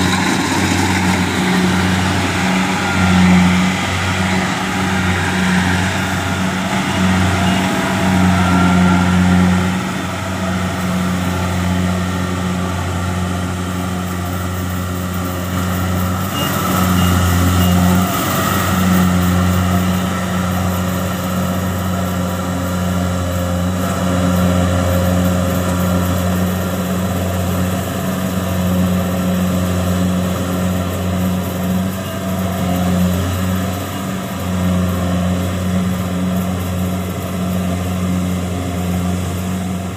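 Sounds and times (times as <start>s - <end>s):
combine harvester humming: 0.0s - 39.9s.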